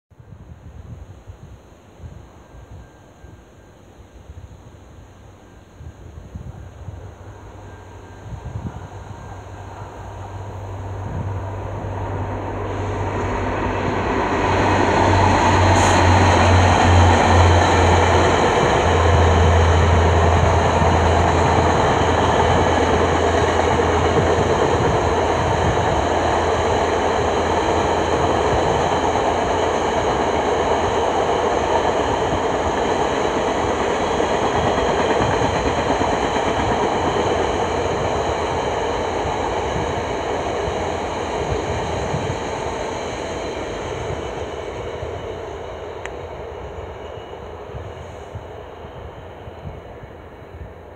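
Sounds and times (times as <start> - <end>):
locomotive engine drone: 5.3 - 50.9
train cars rumbling on rails: 5.4 - 50.9.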